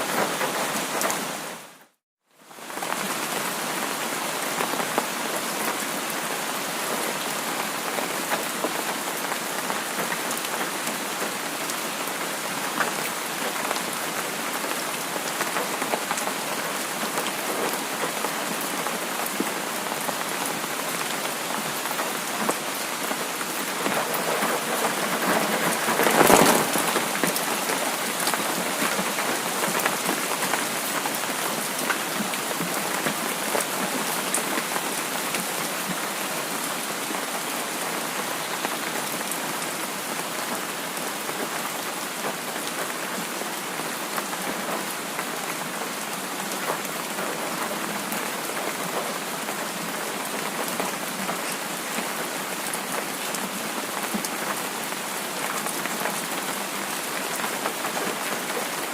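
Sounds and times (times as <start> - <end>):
steady rainfall: 0.0 - 58.9.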